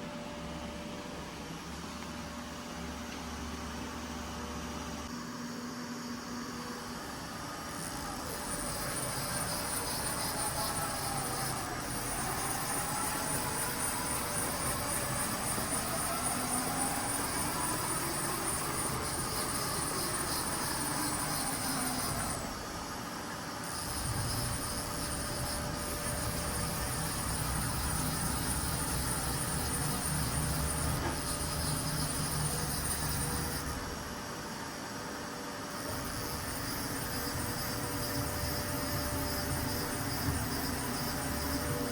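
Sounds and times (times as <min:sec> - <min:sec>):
steady high whine: 0:00.0 - 0:41.9
machine motors whining: 0:06.8 - 0:41.9.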